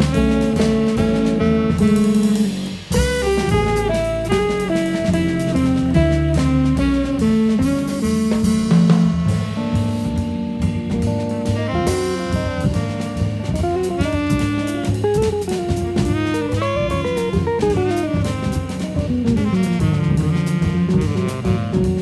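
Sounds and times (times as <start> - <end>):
bass: 0.0 - 22.0
drum kit: 0.0 - 22.0
saxophone melody: 0.0 - 22.0.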